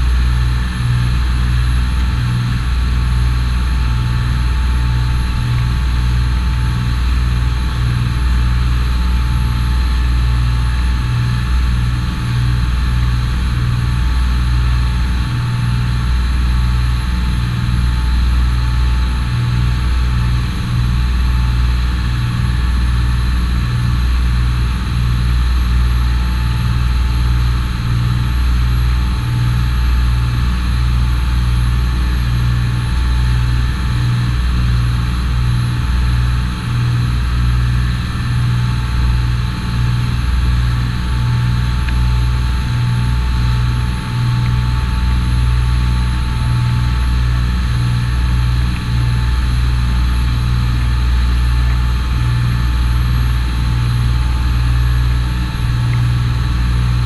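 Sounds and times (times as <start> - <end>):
boat engine droning: 0.0 - 57.0
high engine whine: 0.0 - 57.0.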